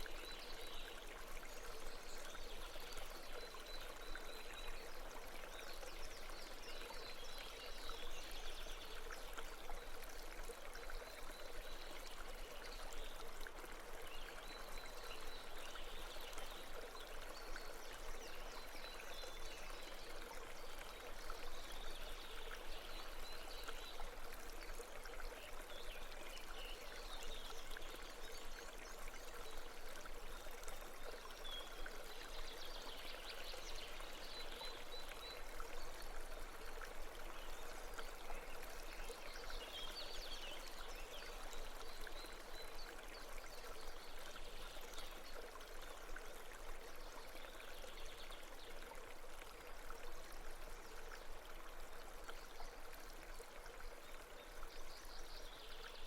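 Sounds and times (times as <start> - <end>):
babbling brook: 0.0 - 56.0.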